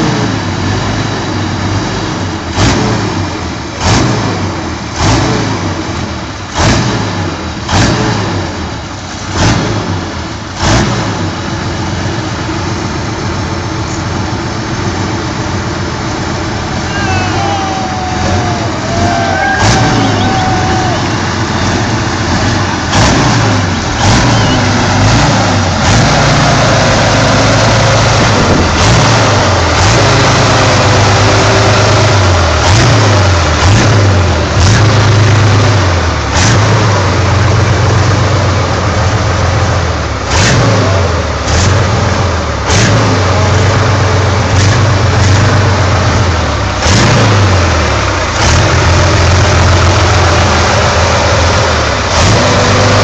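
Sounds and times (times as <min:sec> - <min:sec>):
engine revving: 0:00.0 - 0:12.5, 0:16.2 - 0:53.0.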